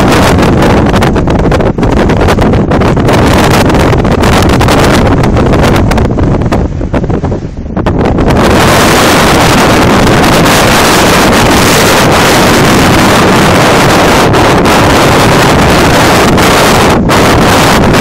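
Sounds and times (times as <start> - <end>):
strong wind on microphone: 0.0 - 18.0.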